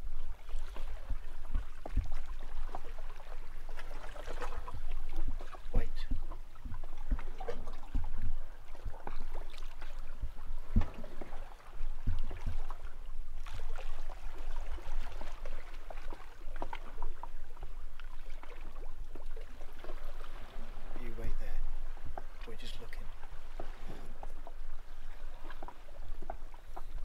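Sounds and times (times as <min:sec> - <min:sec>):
small waves lapping: 0:00.0 - 0:27.0.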